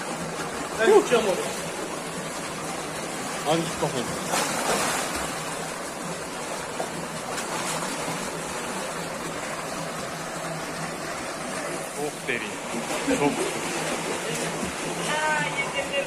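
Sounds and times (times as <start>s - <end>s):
diving splash: 0.0s - 16.0s
flowing water rushing: 0.0s - 16.0s
swimming splashes: 0.0s - 16.0s.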